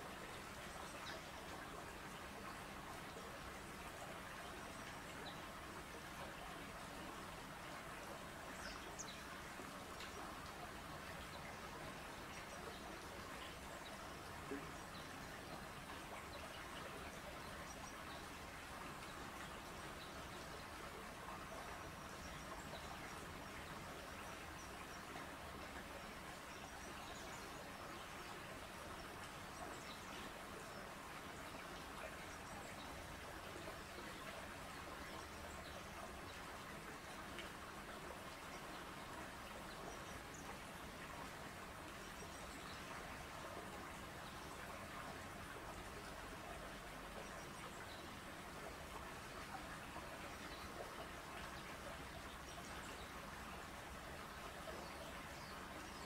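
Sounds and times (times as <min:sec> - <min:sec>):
faint outdoor hiss: 0:00.0 - 0:56.0
faint water lapping and splashing: 0:00.0 - 0:56.0.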